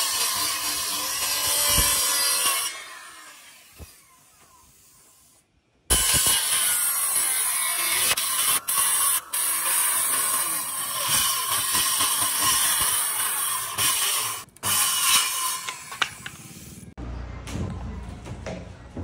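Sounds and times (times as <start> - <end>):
circular saw cutting board: 0.0 - 17.0.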